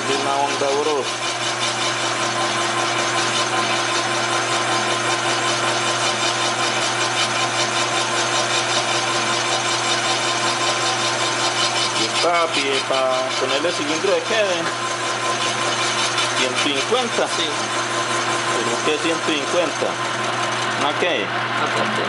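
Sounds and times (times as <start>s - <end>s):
metal cutting rasp: 0.0s - 21.8s
lathe motor hum: 0.0s - 22.0s.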